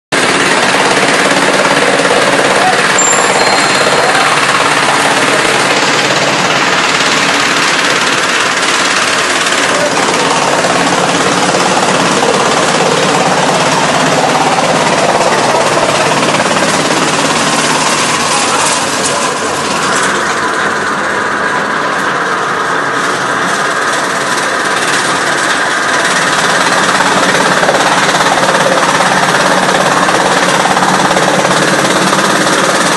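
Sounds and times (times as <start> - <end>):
machine whine: 0.2 - 32.9.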